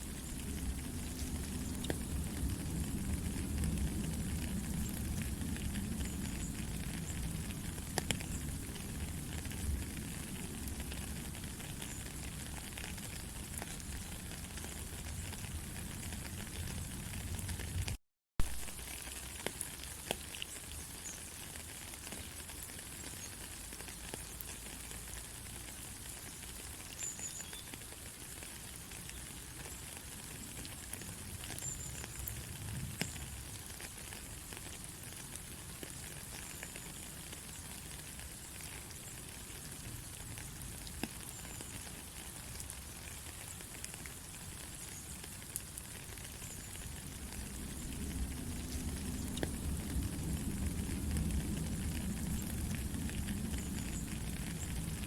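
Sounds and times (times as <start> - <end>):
raindrops ticking: 0.0 - 55.0
steady rain hiss: 0.0 - 55.0.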